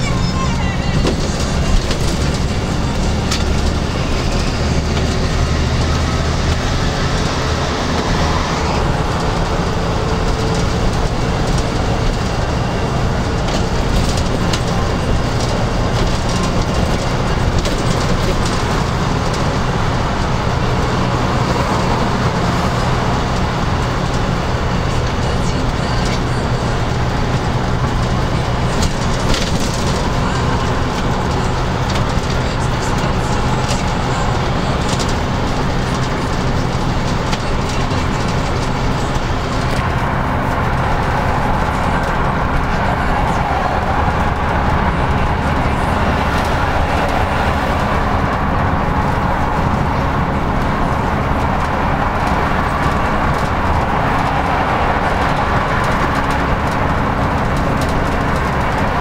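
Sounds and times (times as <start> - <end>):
bus engine droning: 0.0 - 59.0
tyre and road noise: 0.0 - 59.0.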